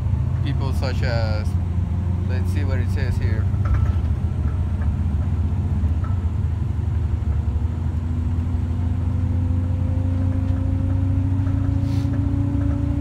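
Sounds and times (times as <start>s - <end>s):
bus engine and road rumble: 0.0s - 13.0s
rising engine whine: 0.0s - 13.0s.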